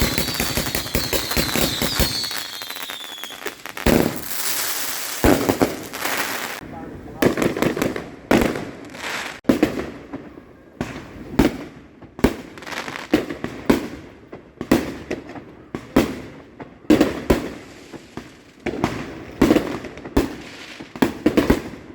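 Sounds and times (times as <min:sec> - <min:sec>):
fireworks bangs with echo: 0:00.0 - 0:21.9.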